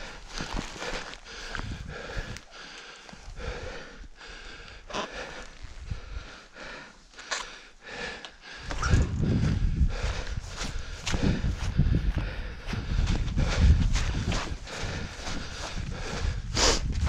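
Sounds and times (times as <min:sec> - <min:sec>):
heavy rapid mouth breathing: 0:00.0 - 0:17.0.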